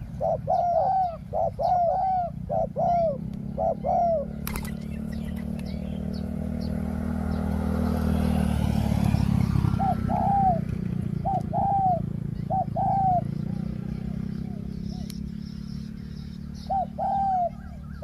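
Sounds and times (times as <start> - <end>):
dove cooing: 0.0 - 18.0
vehicle engine hum: 0.0 - 18.0.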